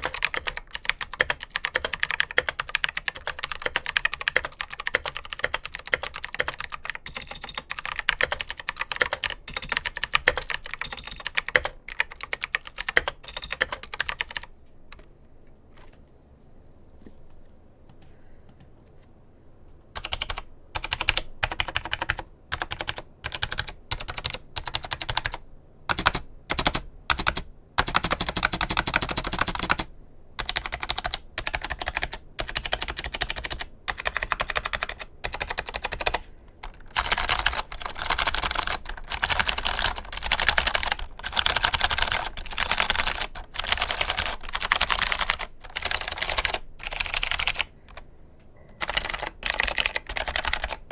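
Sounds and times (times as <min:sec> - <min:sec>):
mechanical keyboard typing: 0:00.0 - 0:15.1, 0:20.0 - 0:48.0, 0:48.6 - 0:50.9.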